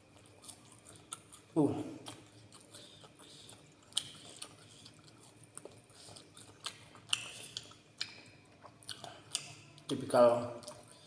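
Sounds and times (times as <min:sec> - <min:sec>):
chewing crisp fried food: 0:00.0 - 0:11.0.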